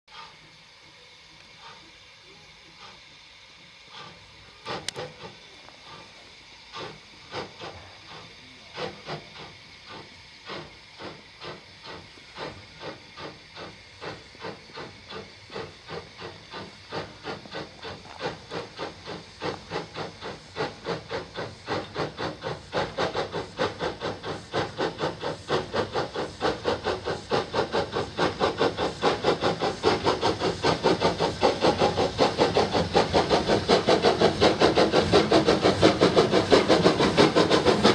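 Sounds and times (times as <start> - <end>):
steam locomotive chuffing: 0.1 - 37.9.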